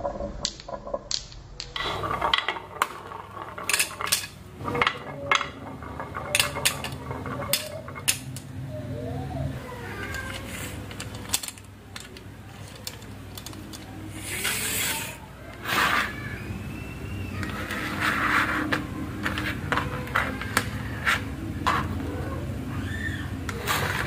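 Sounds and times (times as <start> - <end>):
plastic parts and marbles clicking: 0.0 - 8.7, 9.9 - 16.5, 17.3 - 22.1
toy wheels rolling on wood: 0.0 - 8.8, 9.6 - 24.0.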